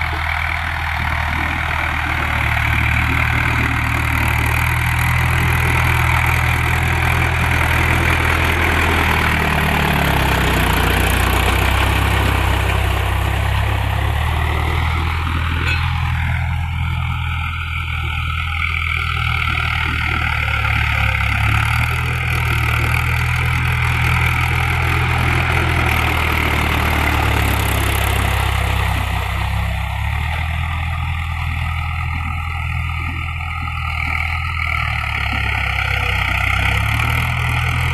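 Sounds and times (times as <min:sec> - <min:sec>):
tractor diesel engine droning: 0:00.0 - 0:37.9.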